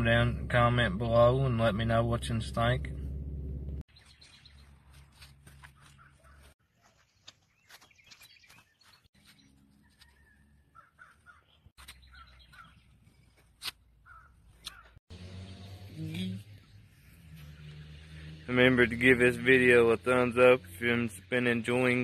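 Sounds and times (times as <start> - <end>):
birds calling: 3.9 - 22.0.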